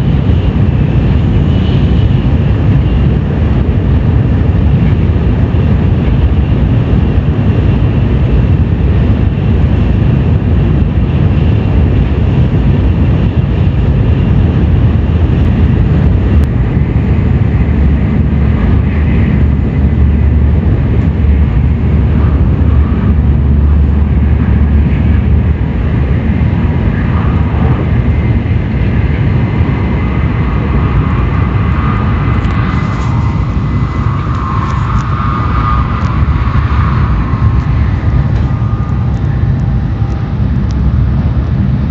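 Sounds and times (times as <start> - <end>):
high-speed train rumbling: 0.0 - 41.9.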